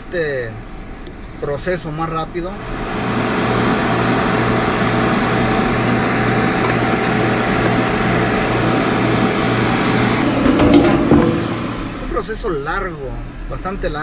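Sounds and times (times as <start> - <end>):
compressor machine running: 0.0 - 14.0.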